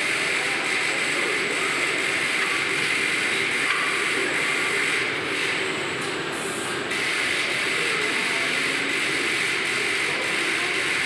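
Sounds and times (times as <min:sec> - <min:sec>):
factory machinery running: 0:00.0 - 0:11.0.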